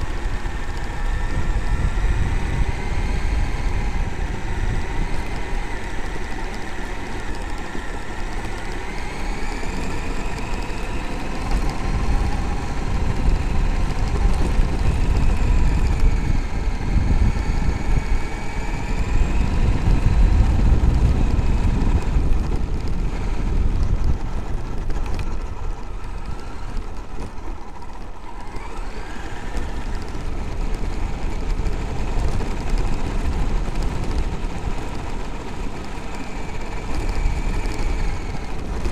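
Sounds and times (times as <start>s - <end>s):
electric motor whine: 0.0s - 38.9s
tyres rumbling on gravel: 0.0s - 38.9s.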